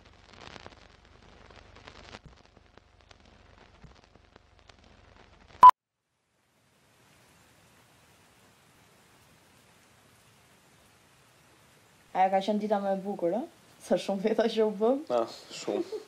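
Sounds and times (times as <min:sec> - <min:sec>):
scratchy film crackle: 0:00.0 - 0:05.6, 0:06.3 - 0:16.0.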